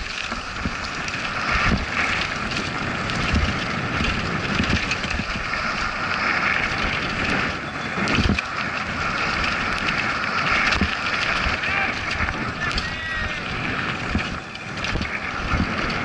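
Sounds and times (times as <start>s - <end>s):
bike knocks and rattles: 0.0s - 16.0s
tyres on loose dirt: 0.0s - 16.0s
wind over microphone: 0.0s - 16.0s.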